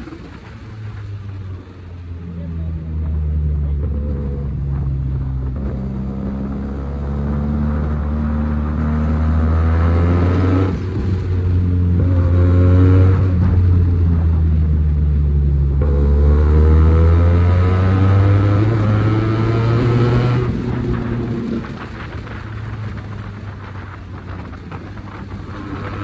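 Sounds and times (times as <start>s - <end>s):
motorcycle engine and exhaust running: 0.0s - 26.0s.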